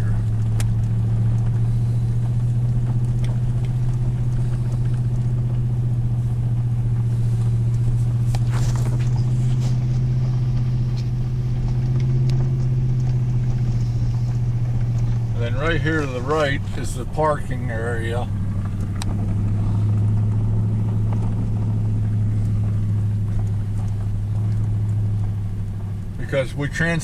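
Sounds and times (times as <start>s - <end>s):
vehicle engine and road drone: 0.0s - 27.0s.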